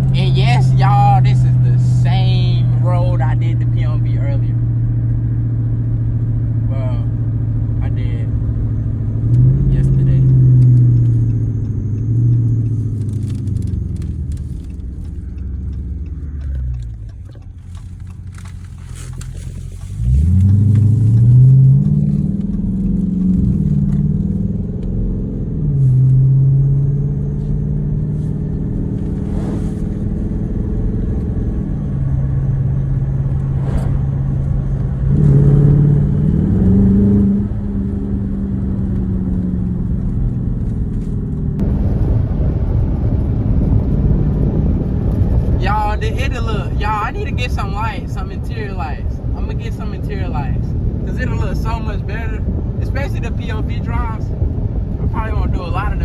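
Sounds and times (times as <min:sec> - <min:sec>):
loud car exhaust revving: 0:00.0 - 0:18.5, 0:19.6 - 0:46.8.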